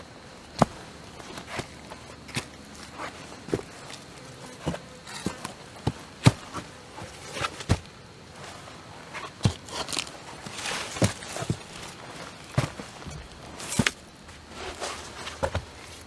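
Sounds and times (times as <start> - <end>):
footsteps on soil and leaf litter: 0.2 - 16.0.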